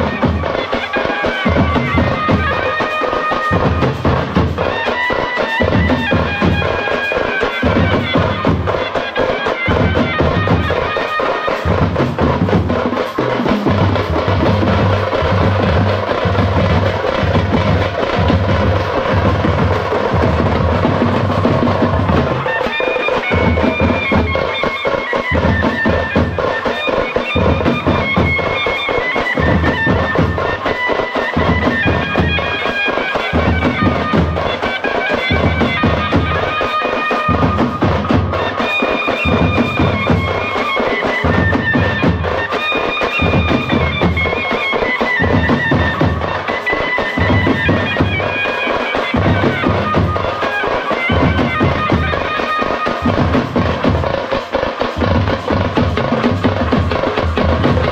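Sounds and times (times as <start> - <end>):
double-reed pipe melody: 0.0 - 57.9
frame drums beating: 0.0 - 57.9.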